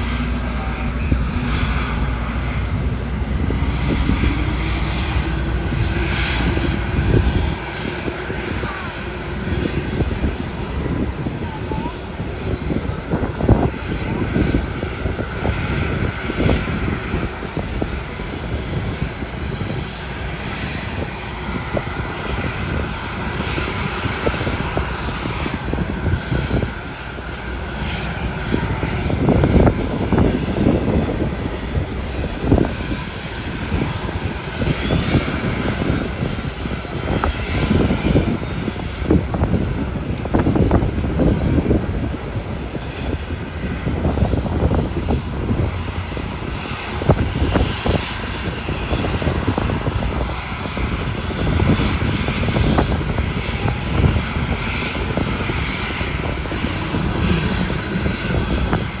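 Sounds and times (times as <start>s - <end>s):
helicopter engines and rotor: 0.0s - 59.0s.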